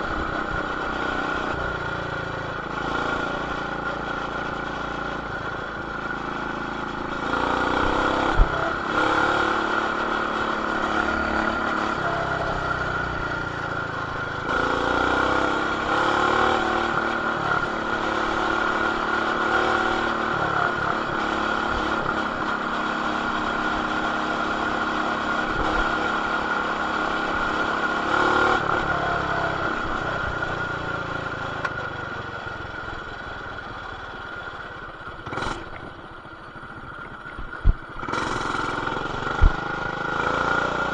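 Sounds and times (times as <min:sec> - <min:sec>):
mini bike engine revving: 0:00.0 - 0:40.9.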